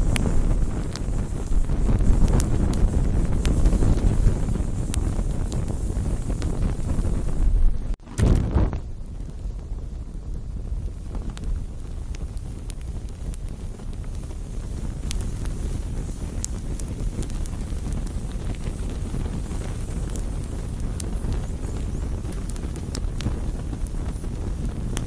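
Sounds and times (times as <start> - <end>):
campfire burning: 0.0 - 25.0
wood crackling and popping: 0.0 - 25.0.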